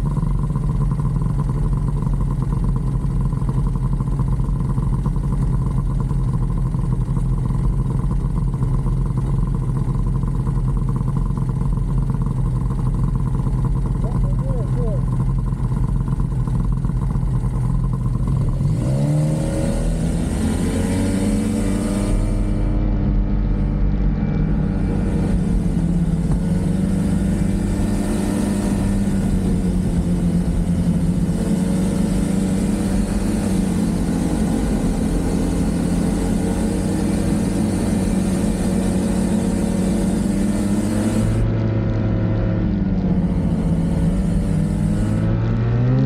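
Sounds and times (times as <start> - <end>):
snowmobile engine running: 0.0 - 46.0.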